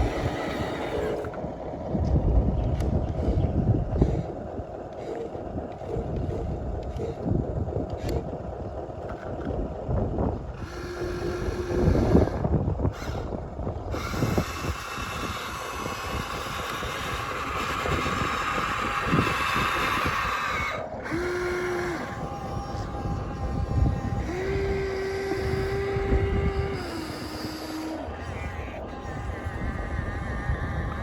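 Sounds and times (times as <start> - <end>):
toy electric motors whirring: 0.0 - 1.5, 2.7 - 9.6, 10.2 - 31.0
high whine: 0.0 - 5.2, 10.1 - 31.0
wind buffeting microphone: 0.0 - 31.0.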